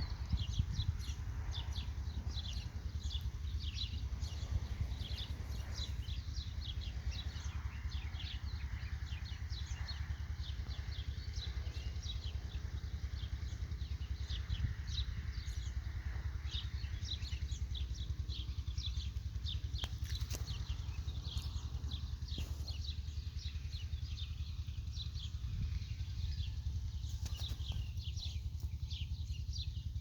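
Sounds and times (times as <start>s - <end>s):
small birds chirping: 0.0s - 30.0s
steady low rumble: 0.0s - 30.0s.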